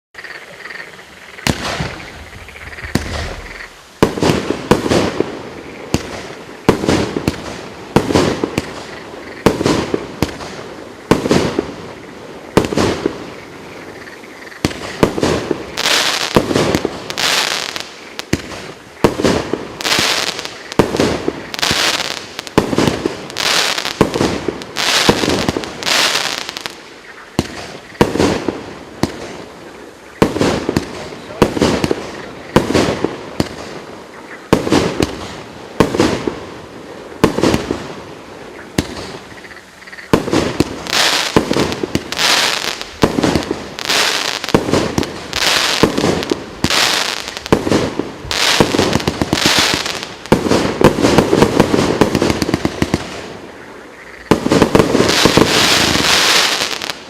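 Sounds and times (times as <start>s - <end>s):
hissing crackle: 0.2s - 57.0s
firework bangs: 1.4s - 13.4s, 14.6s - 29.5s, 30.2s - 33.9s, 34.5s - 36.6s, 37.2s - 38.1s, 38.8s - 39.3s, 40.1s - 53.4s, 54.3s - 57.0s.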